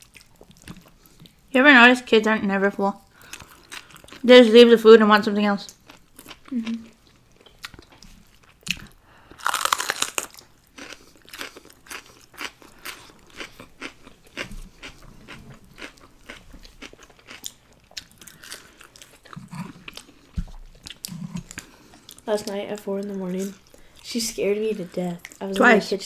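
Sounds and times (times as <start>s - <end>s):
crunchy chewing of fries: 0.0s - 1.4s, 3.2s - 4.5s, 5.7s - 24.0s.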